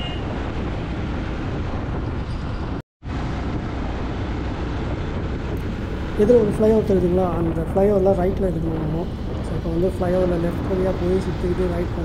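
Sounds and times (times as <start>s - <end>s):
road noise: 0.0s - 12.0s
wind rush on microphone: 0.0s - 12.0s.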